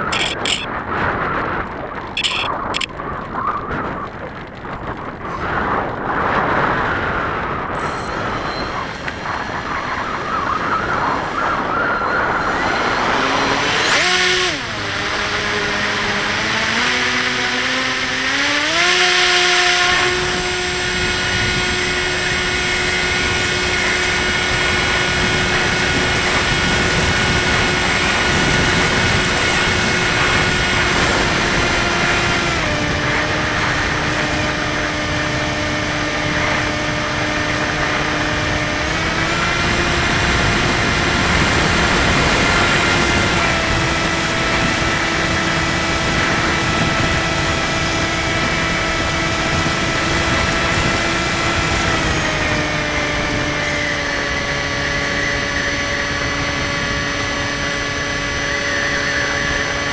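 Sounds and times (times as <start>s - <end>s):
model plane motor whining: 0.0s - 4.1s, 5.4s - 59.9s
wind rushing over microphone: 0.0s - 59.9s.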